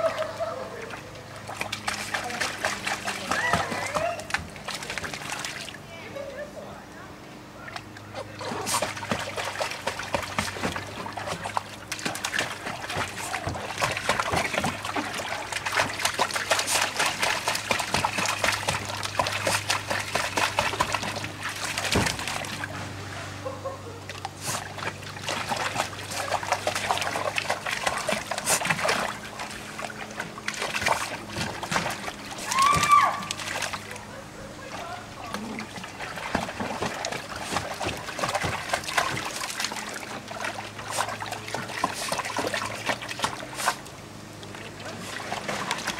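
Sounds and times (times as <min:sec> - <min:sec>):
dog splashing in pool water: 0:00.0 - 0:05.9, 0:07.6 - 0:45.9.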